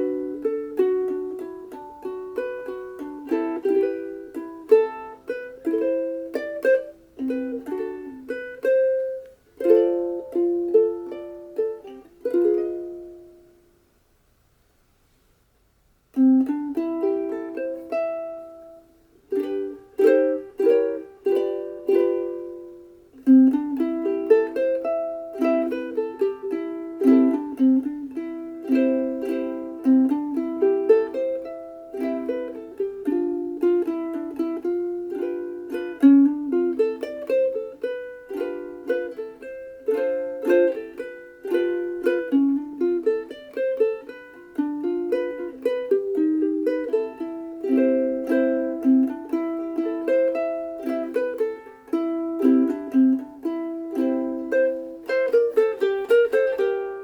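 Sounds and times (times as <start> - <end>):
ukulele plucked melody and chords: 0.0 - 14.0, 16.0 - 57.0.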